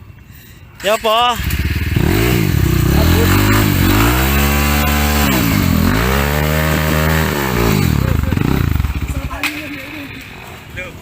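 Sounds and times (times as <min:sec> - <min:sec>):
motorcycle engine revving: 0:01.3 - 0:10.5.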